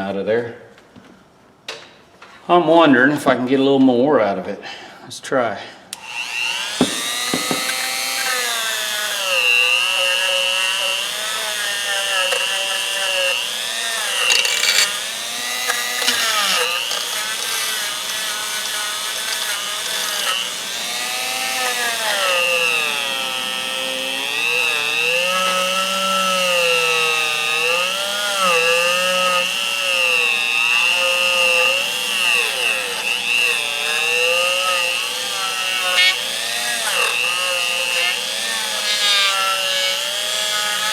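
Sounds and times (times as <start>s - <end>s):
power tool grinding whine: 6.0s - 40.9s.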